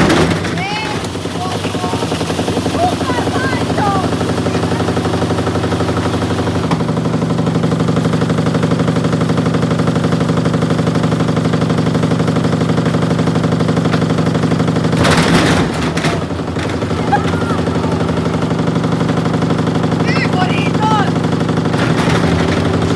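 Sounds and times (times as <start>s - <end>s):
washing machine rattling and banging: 0.0s - 22.9s.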